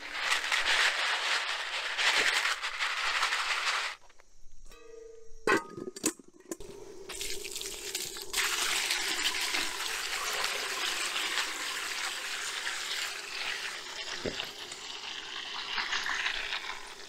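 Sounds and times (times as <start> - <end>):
hose water splashing on beans: 0.0 - 4.1, 7.1 - 17.0.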